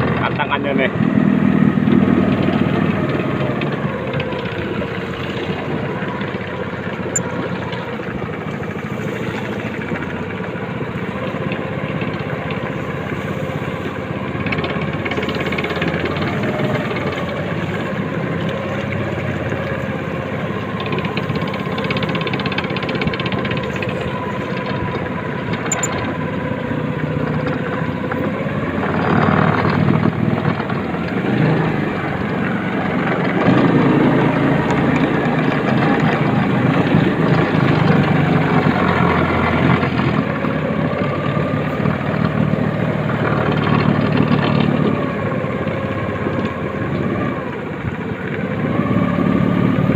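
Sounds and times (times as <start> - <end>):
motorcycle engine: 0.0 - 49.9.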